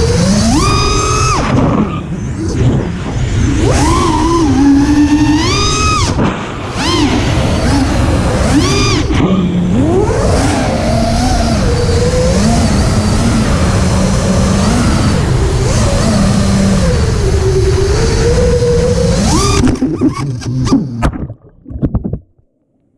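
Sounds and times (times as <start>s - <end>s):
drone motors whining: 0.0s - 21.1s
steady rushing noise: 0.0s - 22.2s.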